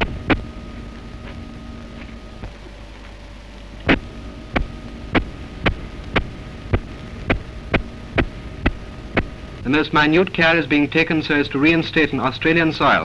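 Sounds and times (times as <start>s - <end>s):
old film soundtrack hum: 0.0s - 13.0s.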